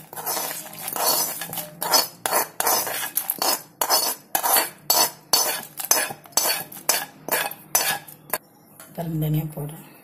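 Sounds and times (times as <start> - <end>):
metal utensils scraping steel vessel: 0.0 - 8.4.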